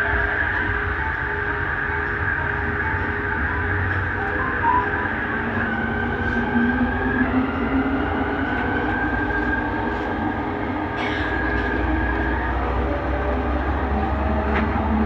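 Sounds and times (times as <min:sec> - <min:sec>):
train rolling noise: 0:00.0 - 0:15.0.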